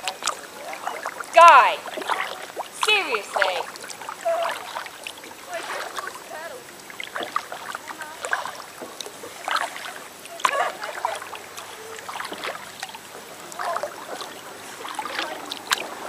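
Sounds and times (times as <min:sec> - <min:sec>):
distant voices: 0:00.0 - 0:16.0
paddle dipping in water: 0:00.0 - 0:16.0.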